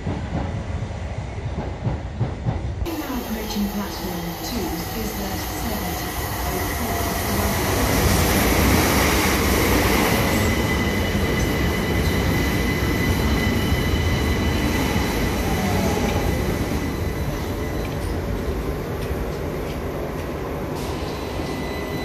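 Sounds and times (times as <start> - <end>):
train wheels rumbling on rails: 0.0 - 22.0
train high whine: 2.9 - 22.0.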